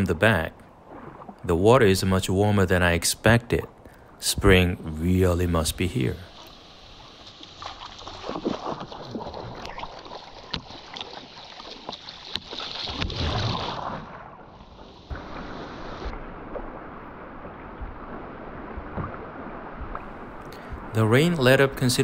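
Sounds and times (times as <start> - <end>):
paddle strokes: 0.0 - 2.3, 3.6 - 22.0
water splashing against kayak hull: 0.0 - 2.8, 3.5 - 22.0.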